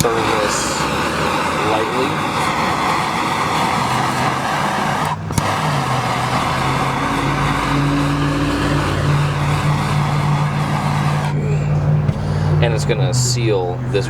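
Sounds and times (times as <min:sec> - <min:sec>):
blowtorch click: 0:00.0 - 0:11.4
blowtorch flame: 0:00.0 - 0:12.9.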